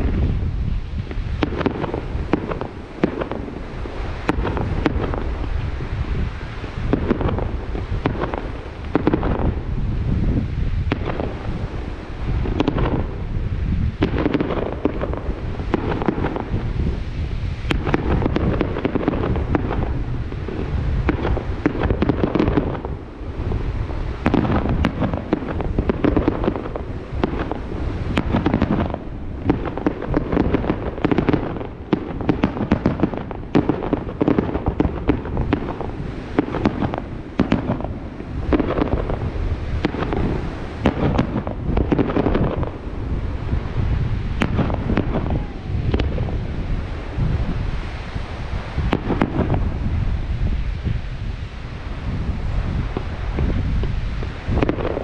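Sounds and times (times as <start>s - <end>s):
fireworks booming and cracking: 0.0s - 55.0s.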